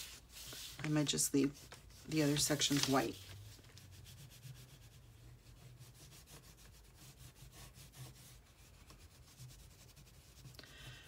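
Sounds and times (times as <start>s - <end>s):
oil pastel scribbling on paper: 0.0s - 3.2s, 3.8s - 10.5s.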